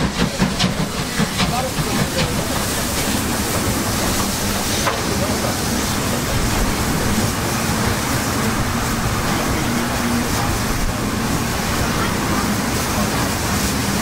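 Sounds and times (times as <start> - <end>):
steam locomotive running noise: 0.0 - 14.0.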